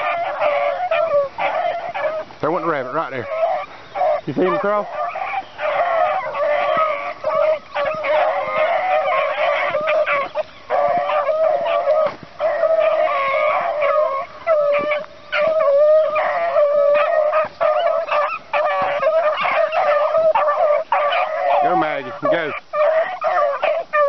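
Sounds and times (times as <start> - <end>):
hounds baying: 0.0 - 24.0.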